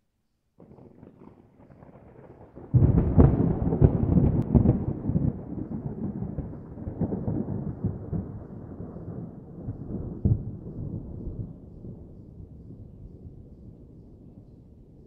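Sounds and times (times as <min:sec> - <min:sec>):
distant thunder rumbling: 0:00.6 - 0:14.4.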